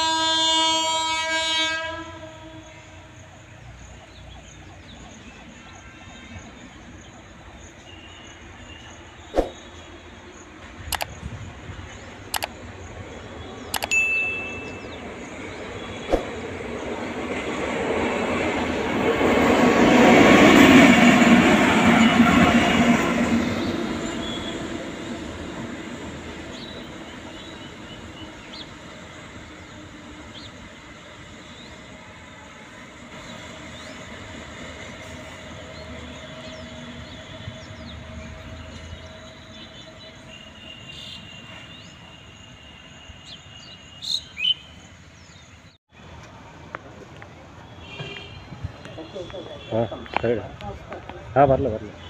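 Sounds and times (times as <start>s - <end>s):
electric locomotive passing: 0.0s - 52.0s
insects: 0.2s - 52.0s.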